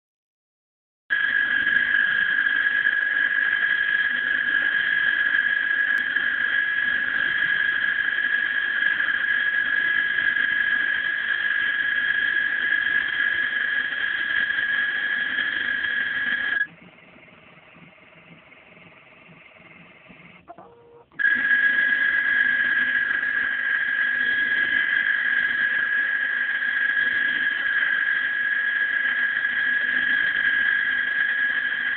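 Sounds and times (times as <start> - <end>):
high-pitched machine whine: 1.1 - 31.9.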